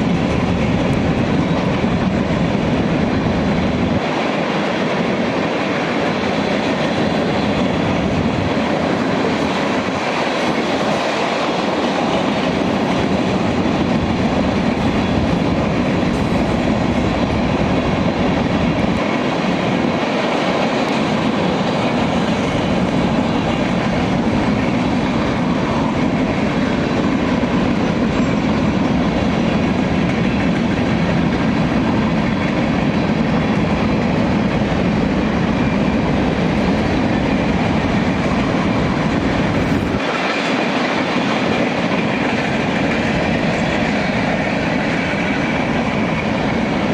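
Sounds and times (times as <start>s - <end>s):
train rumbling past: 0.0s - 46.9s.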